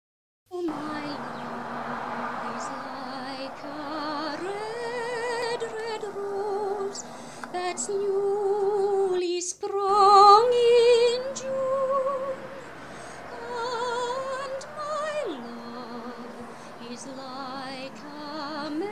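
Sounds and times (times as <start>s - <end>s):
woman singing slow melody: 0.5s - 18.9s.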